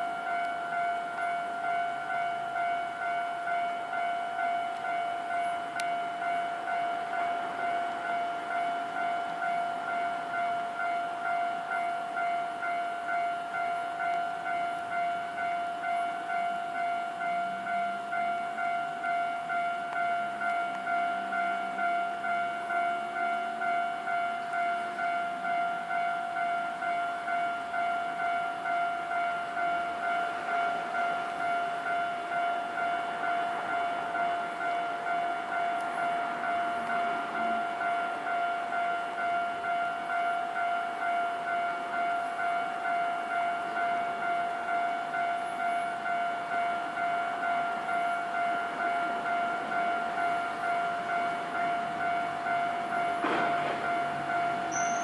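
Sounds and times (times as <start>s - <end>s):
level crossing warning bell: 0.0s - 55.0s.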